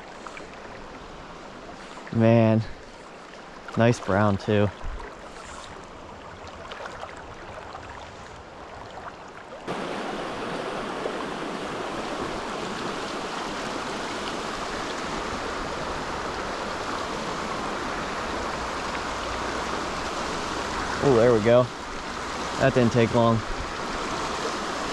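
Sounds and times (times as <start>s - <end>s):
stream water rushing: 0.0s - 24.9s.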